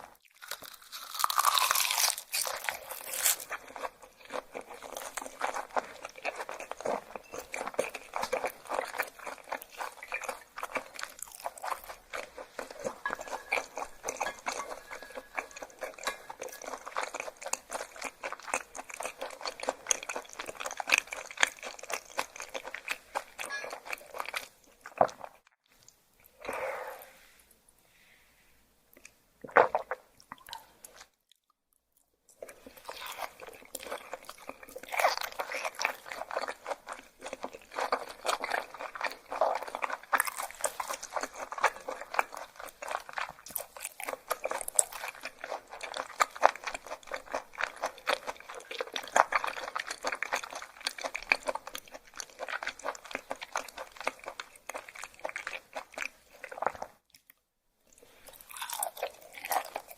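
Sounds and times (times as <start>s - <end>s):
crunchy chewing: 0.0s - 25.5s, 32.3s - 59.9s.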